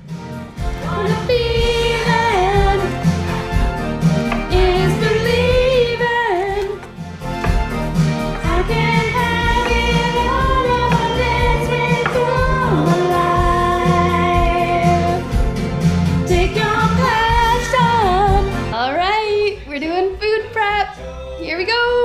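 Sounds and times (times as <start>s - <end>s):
low musical accompaniment: 0.0s - 22.0s.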